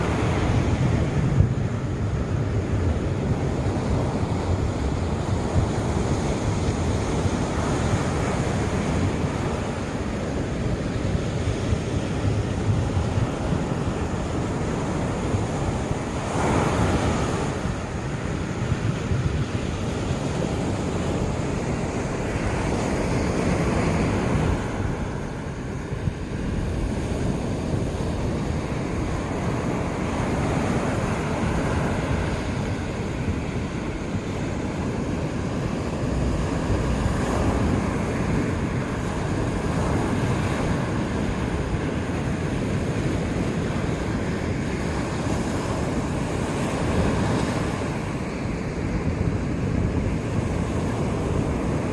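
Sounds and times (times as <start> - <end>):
surf breaking on beach: 0.0 - 51.9
wind buffeting microphone: 0.0 - 51.9.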